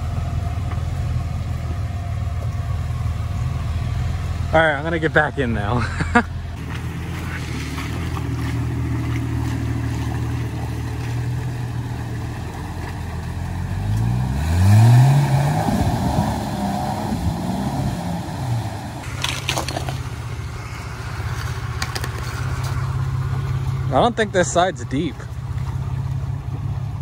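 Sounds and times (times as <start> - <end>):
car engine idling and revving: 0.0 - 27.0
water splashing around wheels: 0.0 - 27.0.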